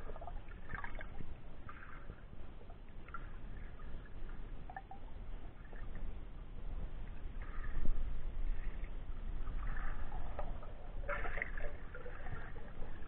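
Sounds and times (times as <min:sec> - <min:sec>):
low underwater rumble: 0:00.0 - 0:13.0
underwater gurgles and bubbling: 0:00.0 - 0:13.0.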